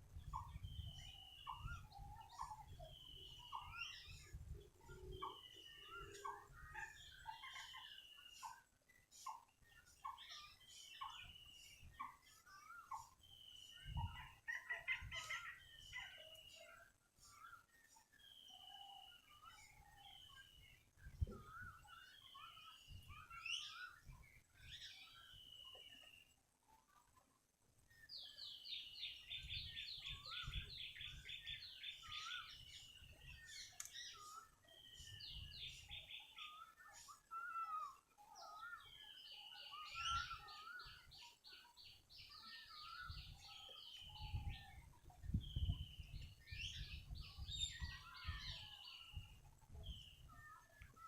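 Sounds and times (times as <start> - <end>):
birds chirping and whistling: 0.1 - 26.3, 27.9 - 51.0.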